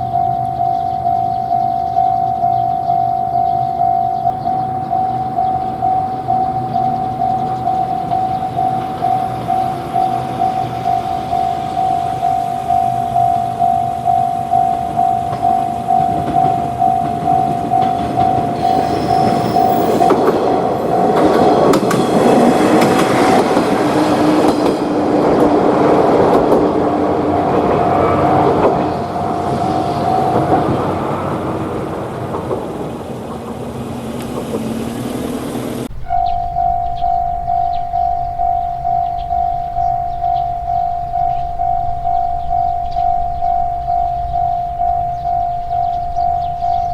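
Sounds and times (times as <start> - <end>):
level crossing warning bell: 0.0 - 32.6, 35.8 - 46.9
train rumble and wheel clatter: 0.0 - 46.9.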